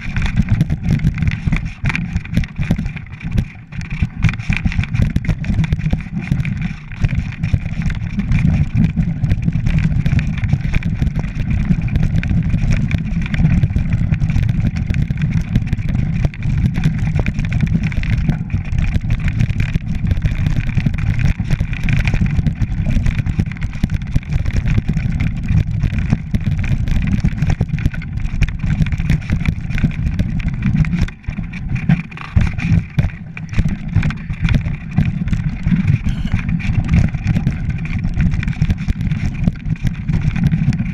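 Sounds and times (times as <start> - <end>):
bike tyres rattling over rock: 0.0 - 40.9.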